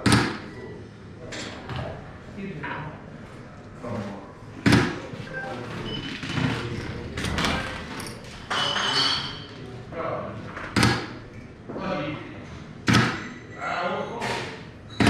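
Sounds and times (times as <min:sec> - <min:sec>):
people talking: 0:00.0 - 0:12.6, 0:13.6 - 0:14.6.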